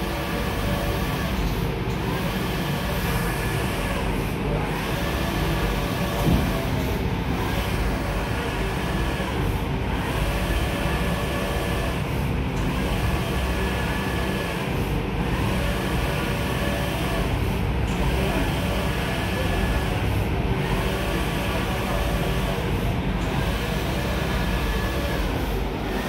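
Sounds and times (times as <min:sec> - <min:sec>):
printer mechanical hum: 0:00.0 - 0:26.0.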